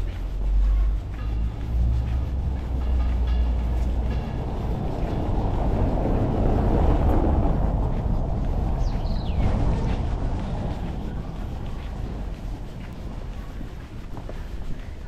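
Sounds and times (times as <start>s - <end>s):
passing vehicle rumble: 0.0s - 15.0s.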